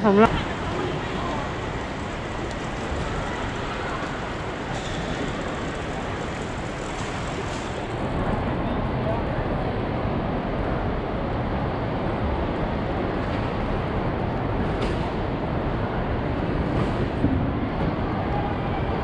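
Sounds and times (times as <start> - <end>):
busy hall rumble and hiss: 0.0 - 19.0.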